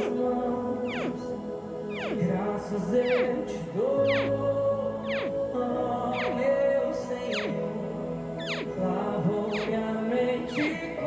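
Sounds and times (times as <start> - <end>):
caiman hatchling chirps: 0.0 - 11.0.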